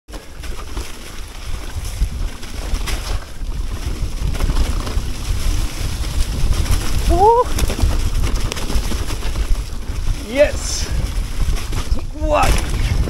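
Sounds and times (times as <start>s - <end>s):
bike knocks and rattles: 0.1s - 13.0s
tyres rolling over leaves: 0.1s - 13.0s
wind rumbling on microphone: 0.1s - 13.0s.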